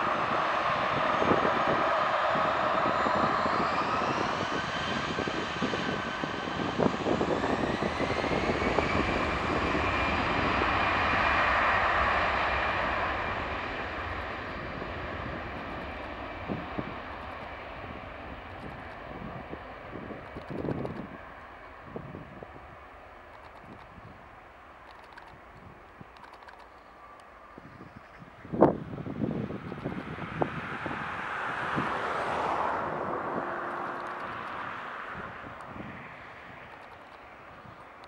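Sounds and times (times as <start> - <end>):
jet airliner engines at takeoff: 0.0 - 38.0
jet fan whine: 0.0 - 38.0.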